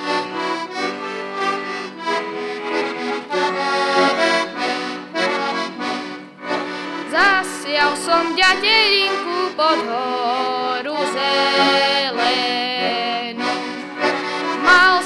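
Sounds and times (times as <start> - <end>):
button accordion folk tune: 0.0 - 15.0.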